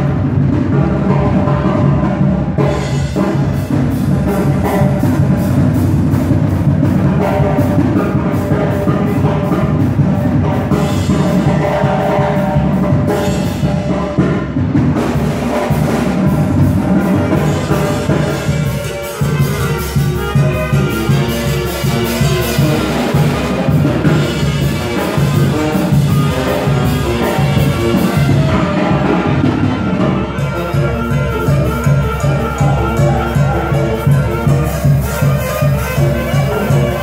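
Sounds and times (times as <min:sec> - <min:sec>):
brass playing: 0:00.0 - 0:37.0
steady drum beat: 0:00.0 - 0:37.0.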